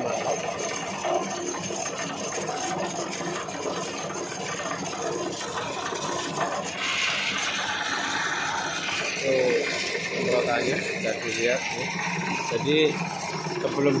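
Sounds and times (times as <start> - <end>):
grinding machine rattling hiss: 0.0 - 14.0.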